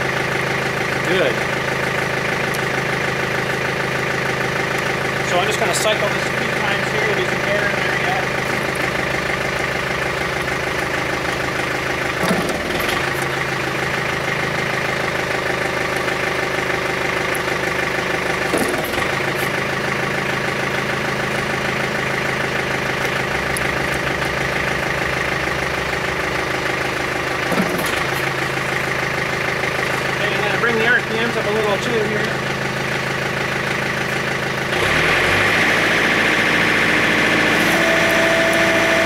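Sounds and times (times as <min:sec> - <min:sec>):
diesel engine running: 0:00.0 - 0:39.0
hydraulic cylinder working: 0:00.7 - 0:39.0.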